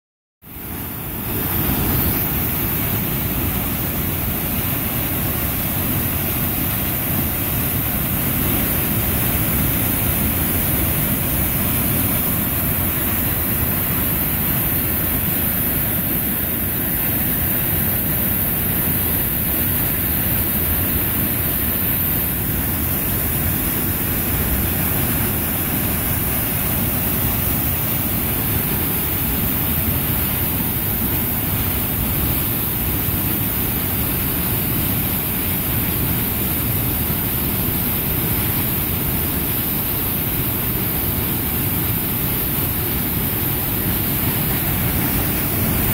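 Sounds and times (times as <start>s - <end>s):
waterfall rushing into gorge: 0.5s - 45.9s.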